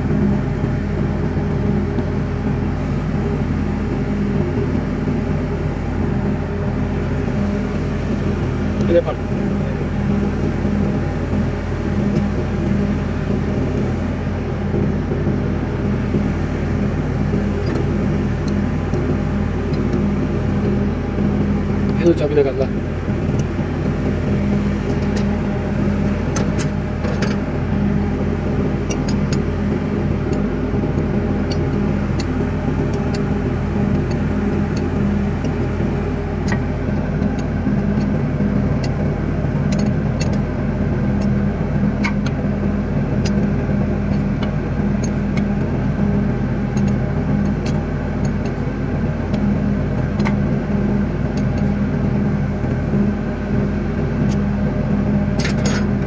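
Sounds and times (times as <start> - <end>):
engine running drone: 0.0 - 56.0.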